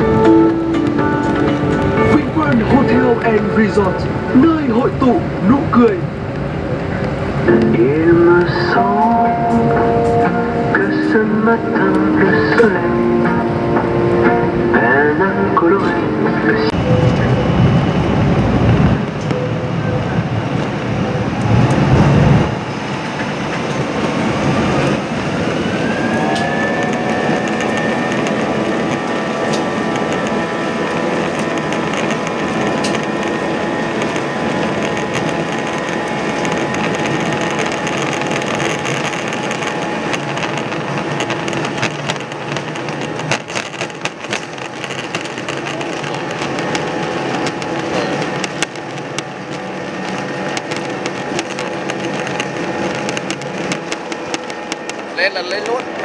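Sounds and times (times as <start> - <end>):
jet engines spooling up: 0.0 - 56.0.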